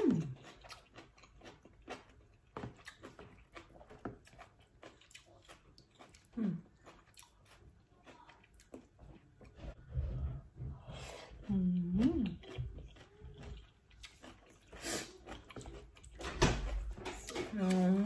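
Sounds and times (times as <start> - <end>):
person chewing soup: 0.0 - 18.0.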